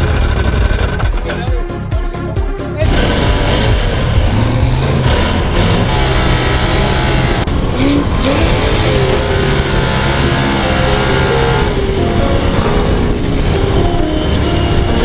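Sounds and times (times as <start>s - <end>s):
sand car engine running hard: 0.0s - 1.5s, 2.8s - 15.0s.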